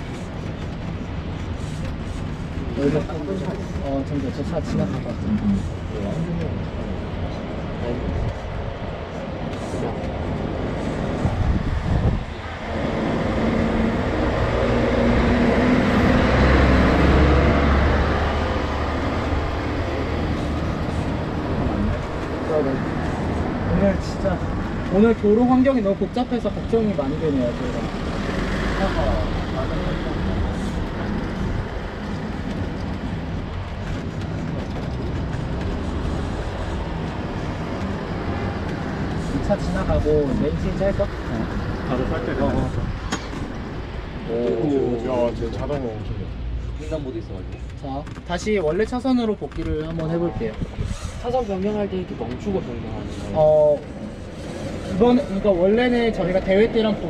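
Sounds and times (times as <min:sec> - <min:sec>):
road and traffic noise: 0:00.0 - 0:57.0.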